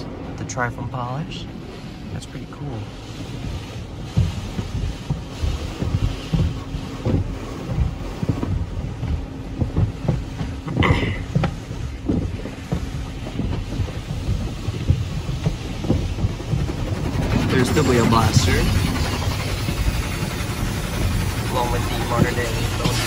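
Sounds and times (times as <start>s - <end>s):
car wash water spray drumming: 0.0s - 23.0s.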